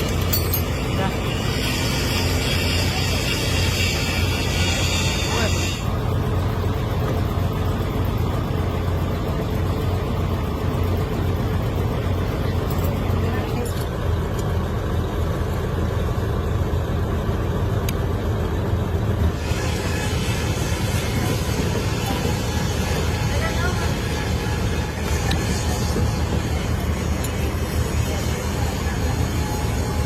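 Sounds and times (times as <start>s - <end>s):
machinery rumbling: 0.0s - 30.0s.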